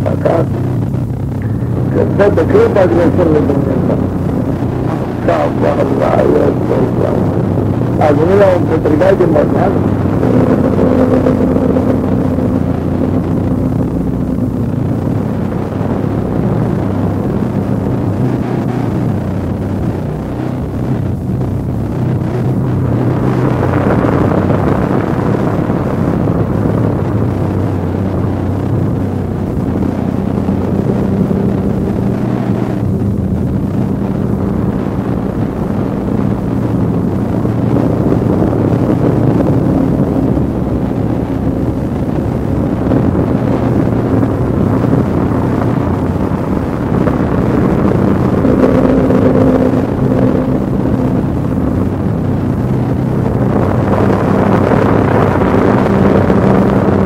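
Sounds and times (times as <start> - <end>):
dark ambient drone music: 0.0 - 57.0.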